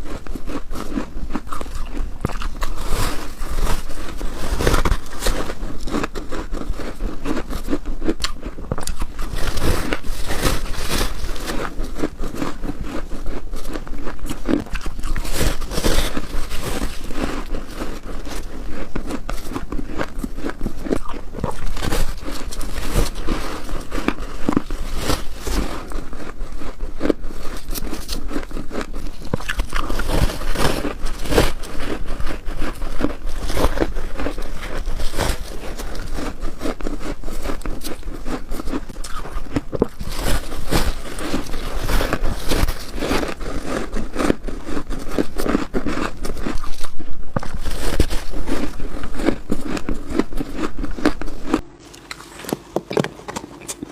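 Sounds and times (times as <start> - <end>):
biting into crunchy ice: 0.0 - 53.9.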